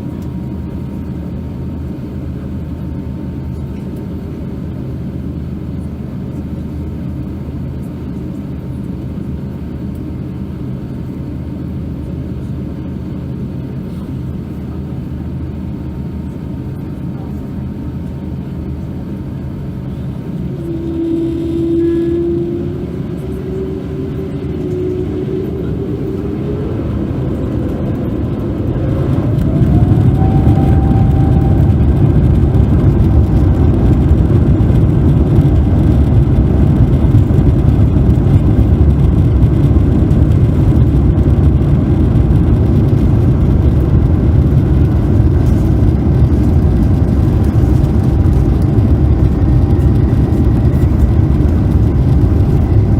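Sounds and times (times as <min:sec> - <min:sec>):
jet engines whining: 0:00.0 - 0:52.9
loud rumble of takeoff roll: 0:00.0 - 0:52.9.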